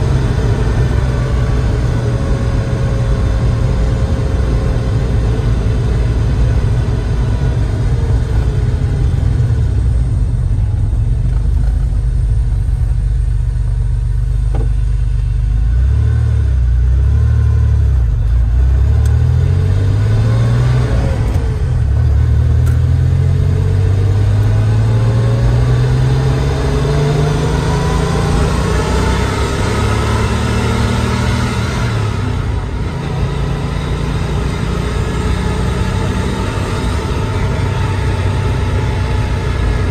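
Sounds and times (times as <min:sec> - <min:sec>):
car engine accelerating: 0:00.0 - 0:39.9
road noise inside car: 0:00.0 - 0:39.9.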